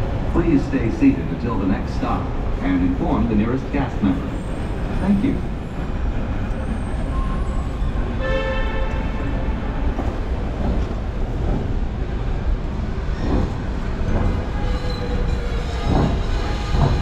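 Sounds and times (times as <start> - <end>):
tram engine rumble: 0.0 - 17.0.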